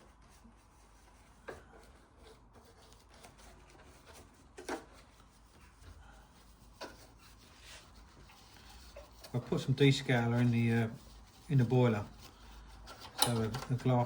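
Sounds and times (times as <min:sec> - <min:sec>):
small parts being moved and rubbed: 0:00.0 - 0:14.0.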